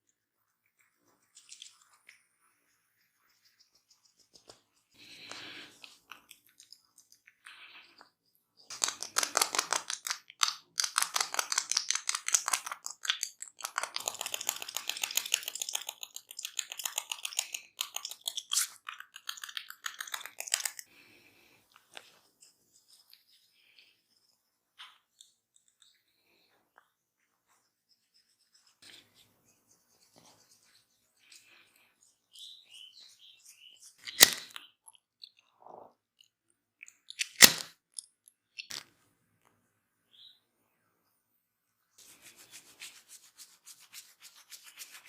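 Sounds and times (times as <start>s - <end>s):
hands crackling and rubbing on head: 0.6s - 35.3s, 42.0s - 45.0s.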